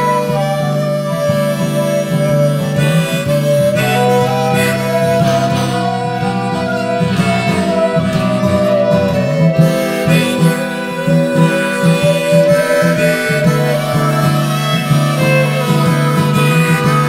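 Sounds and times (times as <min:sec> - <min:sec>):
fiddle: 0:00.0 - 0:17.0
harmonica melody: 0:00.0 - 0:17.0
strummed acoustic guitar: 0:00.0 - 0:17.0.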